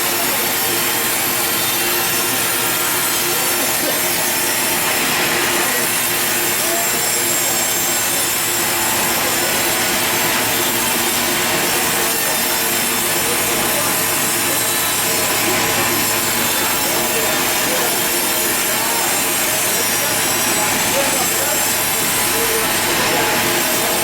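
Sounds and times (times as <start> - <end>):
saw blade cutting log: 0.0 - 24.0.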